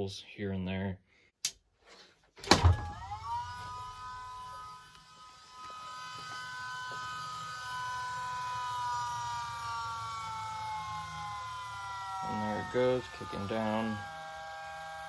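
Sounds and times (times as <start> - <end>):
power steering pump whine: 2.4 - 15.0.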